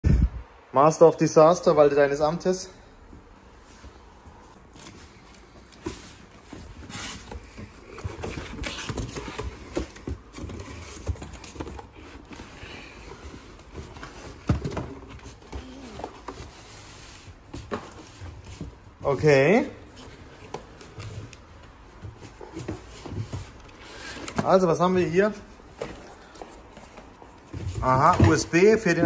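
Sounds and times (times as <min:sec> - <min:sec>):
cardboard rustling and scraping: 0:03.5 - 0:29.0.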